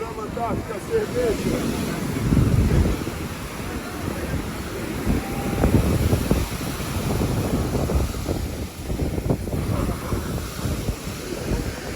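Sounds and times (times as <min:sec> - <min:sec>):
ocean surf washing: 0:00.0 - 0:11.9
wind buffeting microphone: 0:00.0 - 0:11.9.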